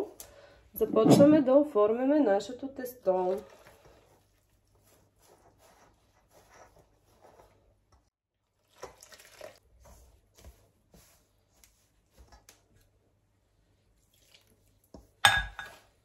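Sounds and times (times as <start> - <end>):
dough squelching: 1.3 - 16.0.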